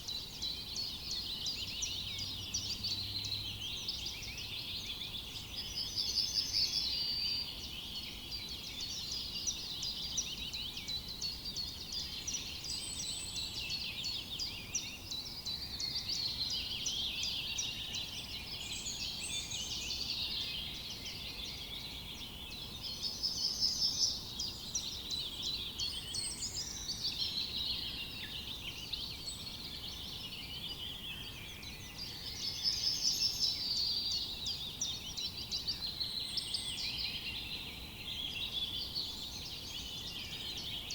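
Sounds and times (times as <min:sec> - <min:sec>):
chorus of birds singing: 0:00.0 - 0:40.9.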